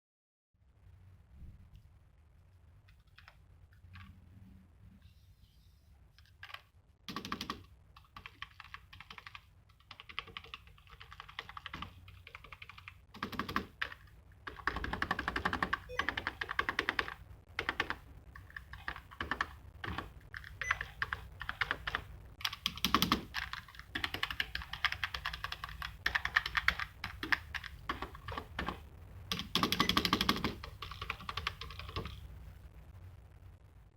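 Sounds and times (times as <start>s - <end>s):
keyboard typing: 2.9s - 4.2s, 6.2s - 32.3s.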